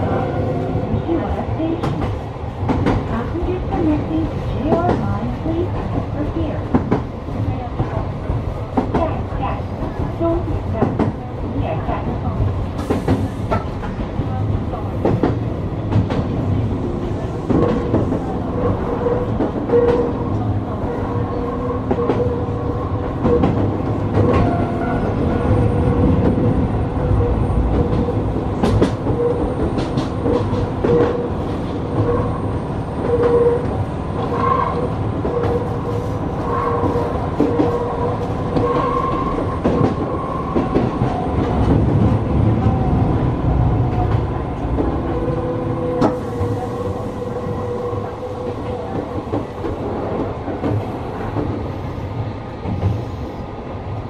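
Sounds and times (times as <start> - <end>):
train running hum: 0.0 - 54.0
wheels rumbling on rails: 0.0 - 54.0.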